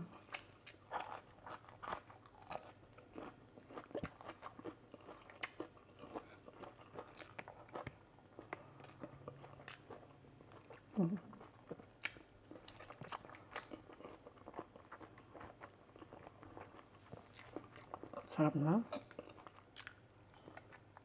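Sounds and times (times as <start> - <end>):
person chewing crunchy food: 0.1 - 18.3, 18.9 - 21.0.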